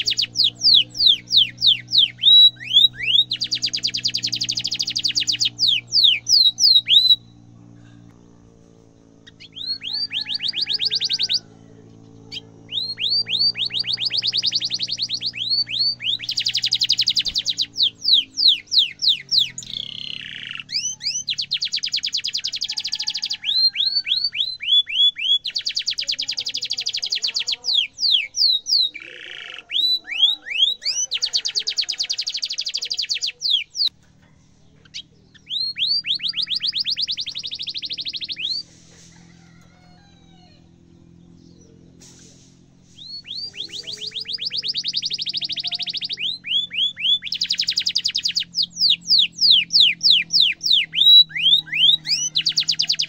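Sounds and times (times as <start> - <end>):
canary singing trills: 0.0 - 53.0
faint low hum: 0.0 - 53.0.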